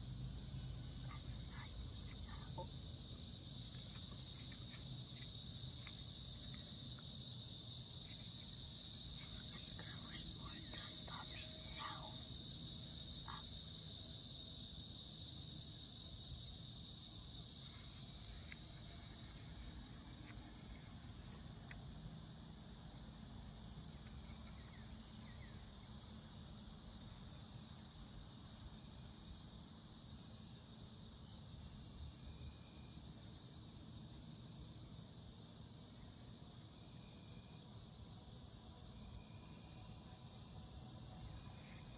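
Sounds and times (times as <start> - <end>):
night insects trilling: 0.0 - 41.9.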